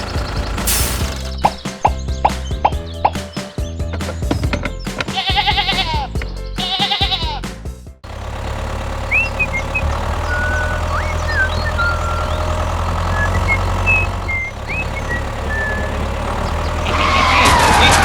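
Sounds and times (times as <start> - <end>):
engine idling: 0.0 - 4.9, 8.0 - 18.0
small birds chirping: 0.0 - 7.4, 8.1 - 18.0.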